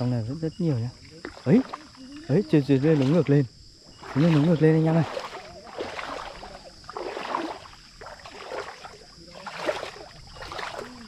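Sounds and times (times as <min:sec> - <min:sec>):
creek water splashing: 0:00.0 - 0:11.0.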